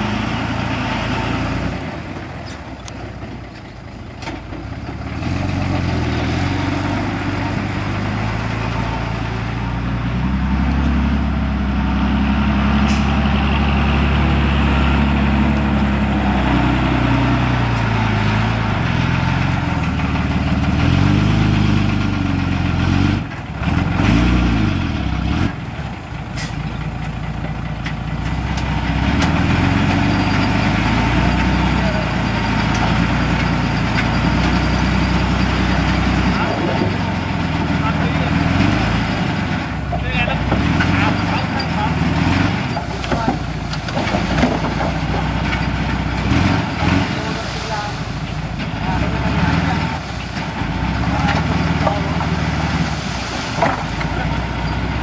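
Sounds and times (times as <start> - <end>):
heavy machine engine revving: 0.0 - 2.8, 4.9 - 26.6, 28.1 - 55.0.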